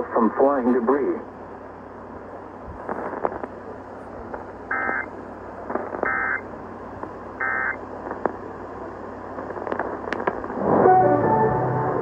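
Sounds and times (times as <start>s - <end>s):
radio static hiss and crackle: 0.0s - 1.4s, 2.3s - 10.9s.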